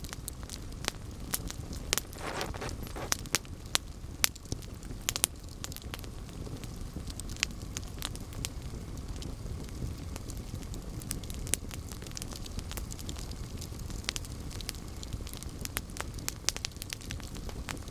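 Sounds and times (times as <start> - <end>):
low rumble of flames: 0.0 - 17.9
wood crackling and popping: 0.0 - 17.9.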